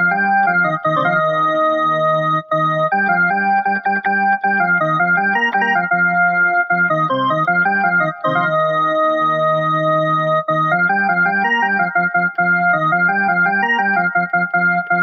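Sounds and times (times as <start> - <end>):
electronic keyboard melody: 0.0 - 15.0.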